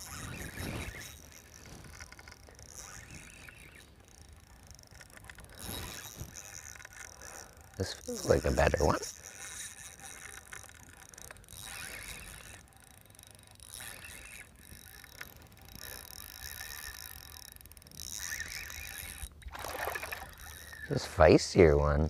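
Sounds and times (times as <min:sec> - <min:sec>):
fishing reel whirring: 0:00.0 - 0:22.0.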